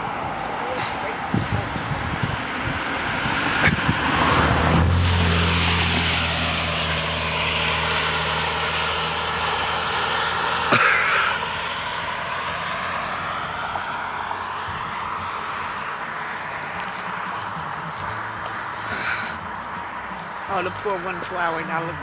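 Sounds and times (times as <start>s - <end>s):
car engine drone: 0.0s - 22.0s
wind and road noise: 0.0s - 22.0s.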